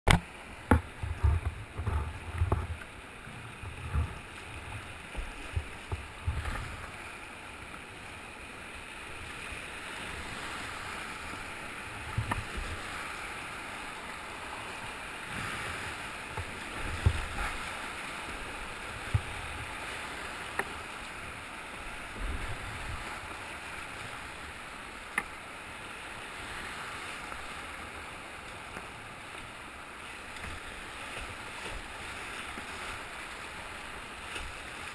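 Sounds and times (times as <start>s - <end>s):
whitewater rapids rushing: 3.0s - 34.9s.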